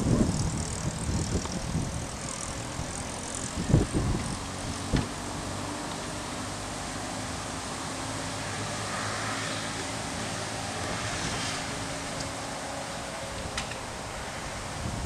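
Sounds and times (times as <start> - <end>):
low continuous rumble: 0.0 - 15.0.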